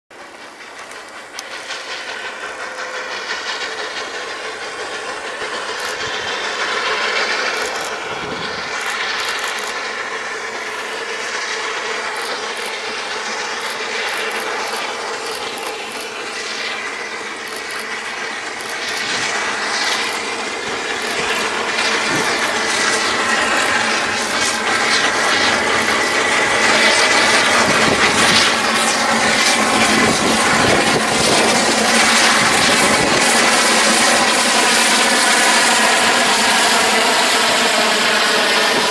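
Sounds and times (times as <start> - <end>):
steam train approaching: 0.1 - 38.9.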